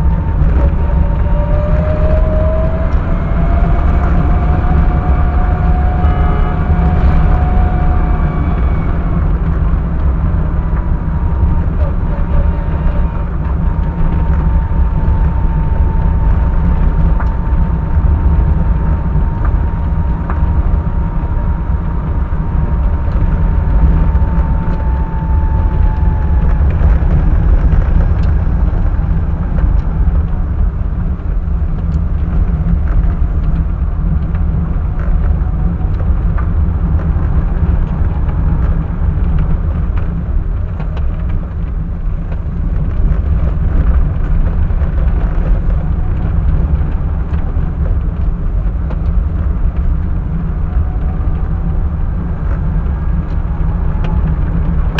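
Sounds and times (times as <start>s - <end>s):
car engine and road rumble: 0.0s - 54.9s
faint whine sliding down in pitch: 0.0s - 54.9s.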